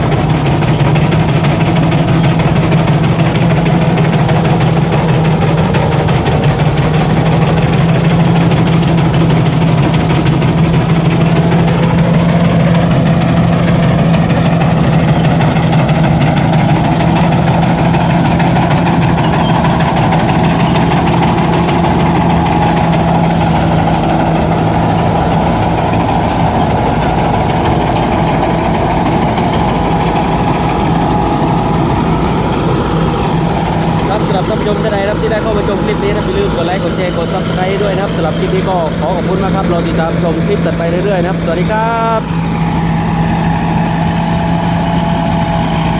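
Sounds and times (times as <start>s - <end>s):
combine harvester engine running: 0.0s - 45.9s.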